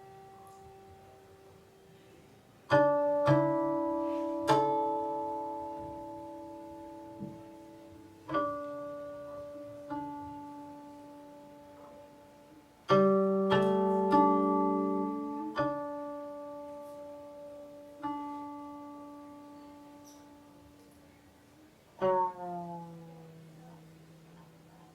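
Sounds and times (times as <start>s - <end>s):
plucked zither notes: 0.0s - 2.0s, 2.6s - 24.9s.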